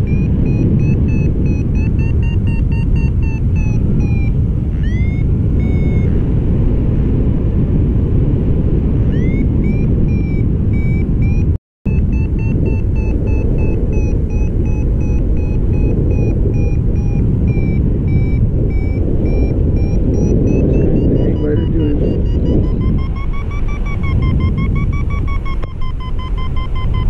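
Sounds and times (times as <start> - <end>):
variometer short beeps: 0.0 - 6.2, 9.0 - 27.0
wind buffeting microphone: 0.0 - 27.0.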